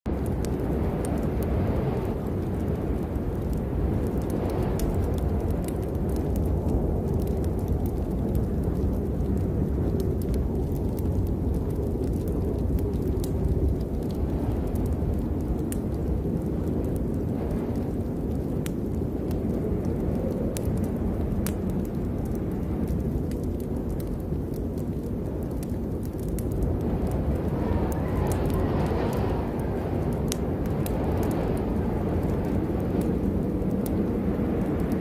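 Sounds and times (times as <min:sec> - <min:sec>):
steady rain: 0:00.0 - 0:35.0
deep low rumble: 0:00.1 - 0:35.0.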